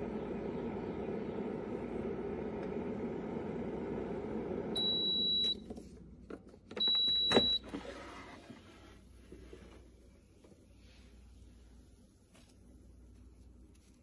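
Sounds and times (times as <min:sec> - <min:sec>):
air fryer fan running: 0:00.0 - 0:11.9.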